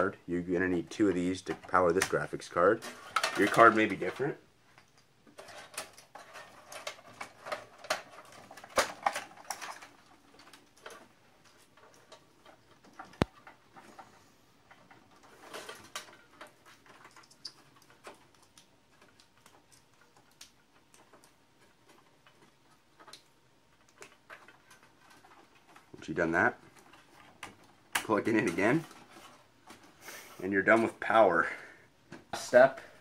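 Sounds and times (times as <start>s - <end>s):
plastic connectors clicking and rattling: 0.0s - 29.9s.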